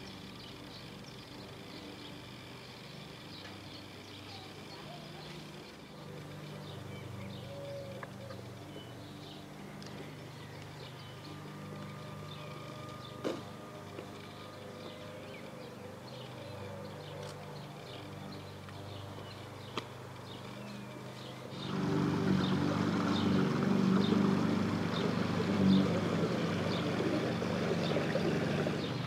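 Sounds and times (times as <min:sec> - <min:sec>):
rough loud engine: 0:00.0 - 0:29.0
small birds chirping: 0:00.0 - 0:29.0
small boat engine humming: 0:00.0 - 0:29.0.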